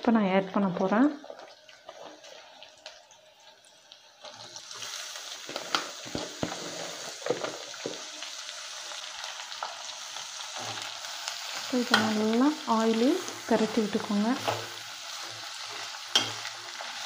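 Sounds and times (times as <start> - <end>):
cabbage sizzling in oil: 0.4 - 17.0.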